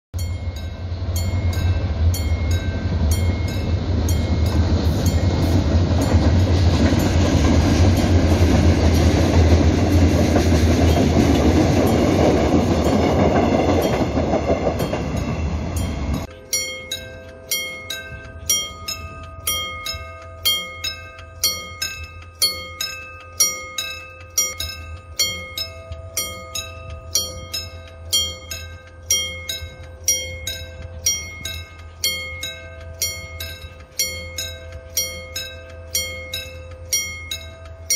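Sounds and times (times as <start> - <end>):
diesel train passing on rails: 0.2 - 37.9.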